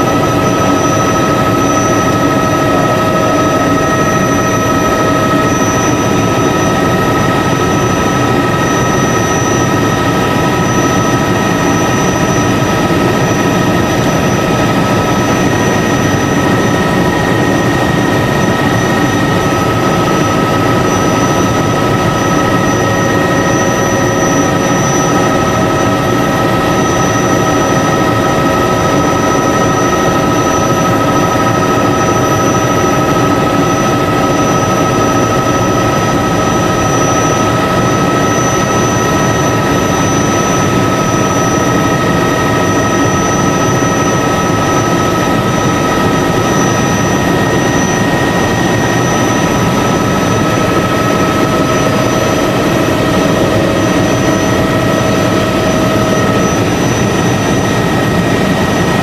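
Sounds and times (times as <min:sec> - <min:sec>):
helicopter engine and rotor drone: 0:00.0 - 0:59.0
high steady whining tones: 0:00.0 - 0:59.0.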